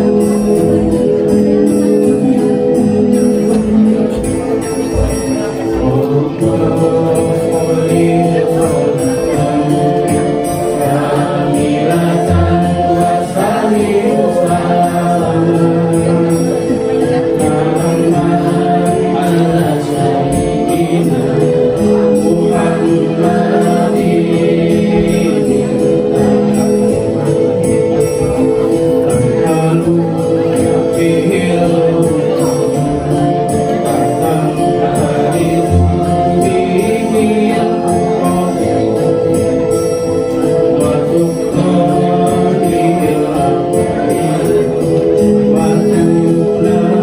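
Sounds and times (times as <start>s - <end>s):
man singing devotional song: 2.3s - 26.6s, 29.2s - 39.6s, 40.3s - 47.0s.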